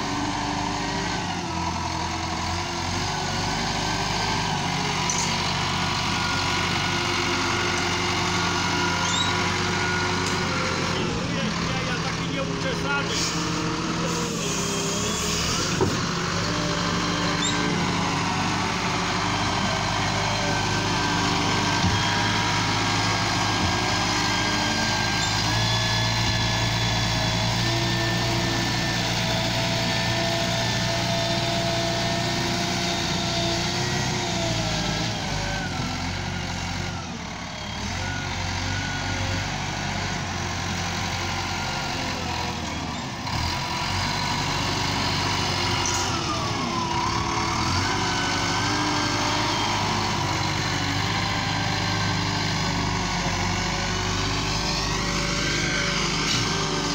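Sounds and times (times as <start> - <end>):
wheel loader diesel engine: 0.0 - 56.9.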